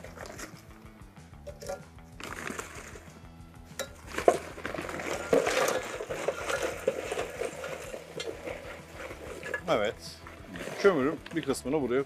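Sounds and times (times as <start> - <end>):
charcoal clattering on metal plate: 0.0 - 0.8, 1.4 - 3.1, 3.7 - 11.6
background music: 0.0 - 12.0.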